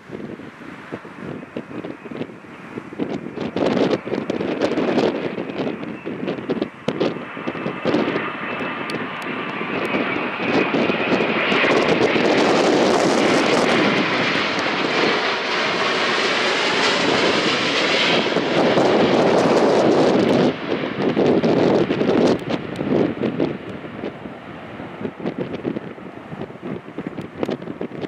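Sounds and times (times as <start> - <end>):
jet engines roaring with whine: 0.0 - 28.0.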